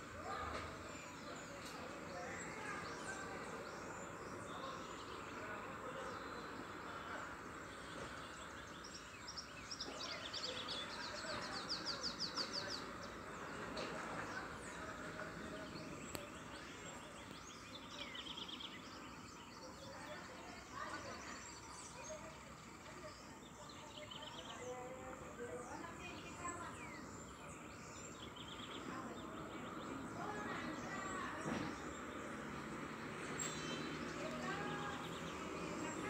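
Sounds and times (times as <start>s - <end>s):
birds calling: 0.0s - 36.0s.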